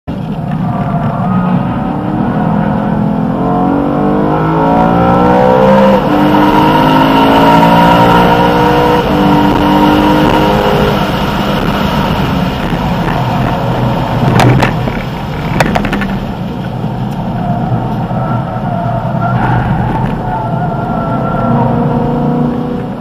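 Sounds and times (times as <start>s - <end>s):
car engine accelerating hard: 0.2s - 23.0s.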